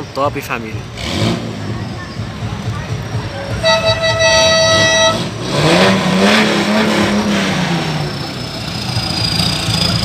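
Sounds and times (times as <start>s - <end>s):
diesel truck engine revving: 0.8s - 10.0s.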